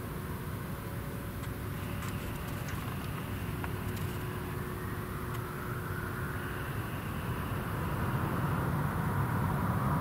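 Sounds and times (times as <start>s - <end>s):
jet engines rumbling: 0.0s - 10.0s
rising engine whine: 0.0s - 10.0s.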